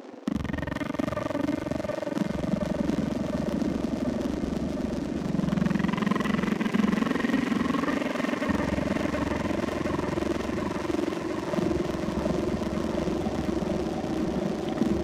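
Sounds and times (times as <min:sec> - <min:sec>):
wavering high whine: 0:00.0 - 0:15.0.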